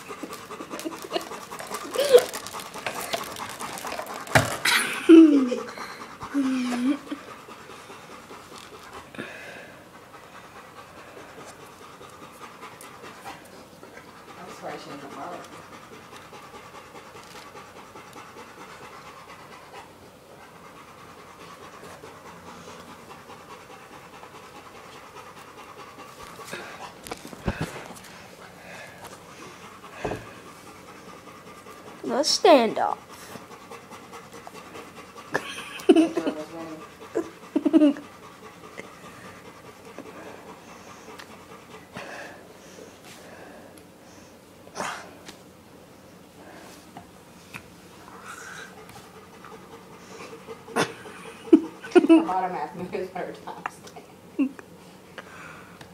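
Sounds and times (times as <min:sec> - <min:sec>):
dog panting: 0:00.0 - 0:44.6, 0:45.4 - 0:55.2.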